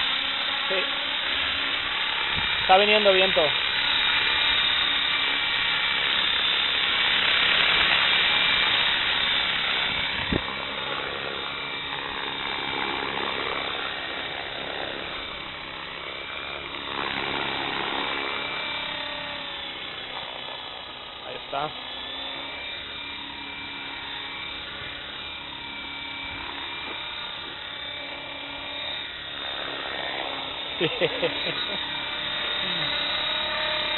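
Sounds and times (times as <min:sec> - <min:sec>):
rc helicopter motor whine: 0:00.0 - 0:33.9.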